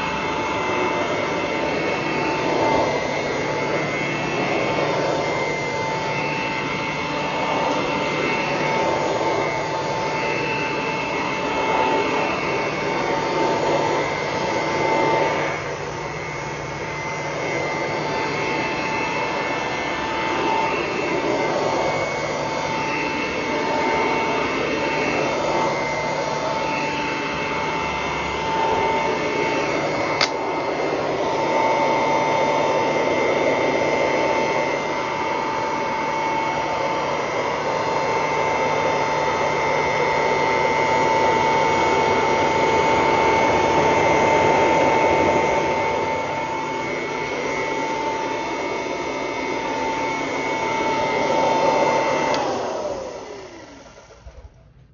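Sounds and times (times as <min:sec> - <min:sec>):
vacuum cleaner whining: 0:00.0 - 0:54.9.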